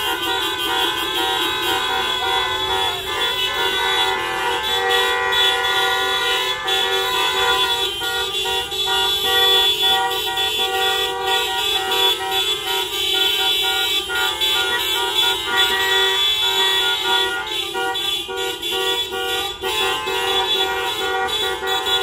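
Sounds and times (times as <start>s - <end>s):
many car horns honking: 0.0s - 22.0s.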